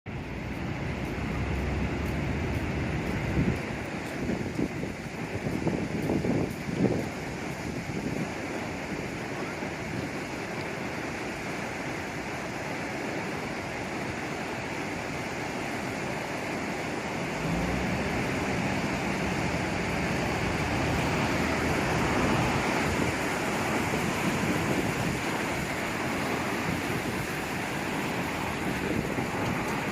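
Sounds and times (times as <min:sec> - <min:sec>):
wind buffeting microphone: 0:00.1 - 0:29.9
heavy surf breaking: 0:00.2 - 0:29.9.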